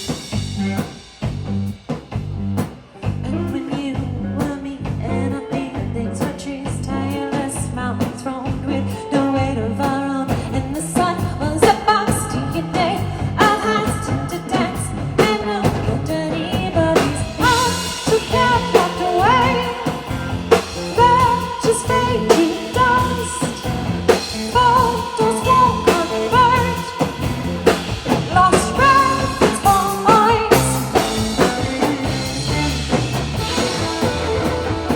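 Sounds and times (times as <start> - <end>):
live rock band: 0.0 - 34.9
person singing: 3.2 - 27.3, 28.3 - 34.9.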